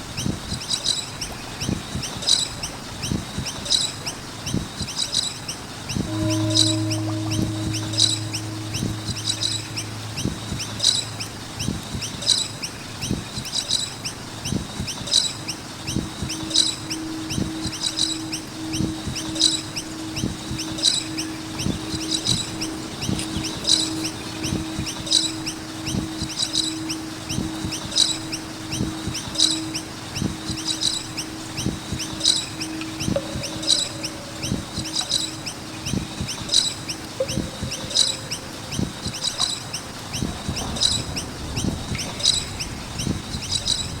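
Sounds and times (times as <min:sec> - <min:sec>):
birds chirping: 0:00.0 - 0:44.0
steady low tone: 0:05.9 - 0:44.0.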